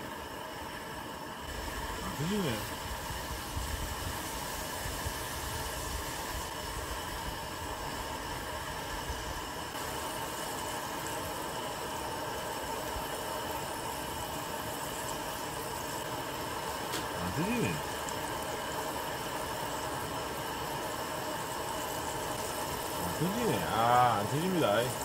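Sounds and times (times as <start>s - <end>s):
oil sizzling while deep-frying: 0.0s - 25.0s.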